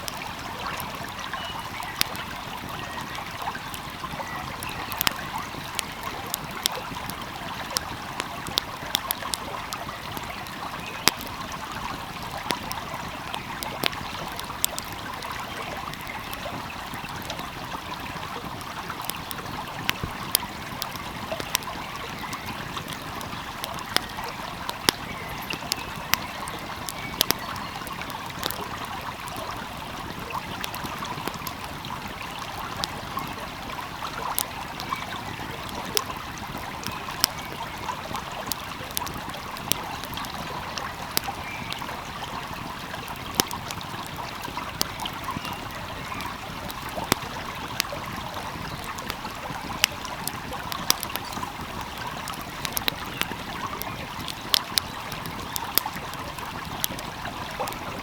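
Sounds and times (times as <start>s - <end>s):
flowing stream: 0.0s - 58.0s
wood fire crackling: 0.0s - 58.0s.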